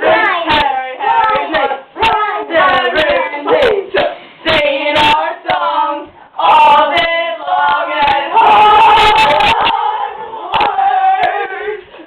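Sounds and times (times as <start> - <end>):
voices singing a cappella chant: 0.0 - 12.0.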